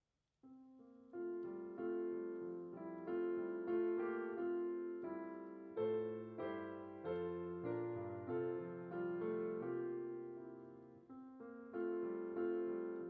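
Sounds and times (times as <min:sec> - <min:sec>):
piano playing slow chords: 0:00.5 - 0:13.0.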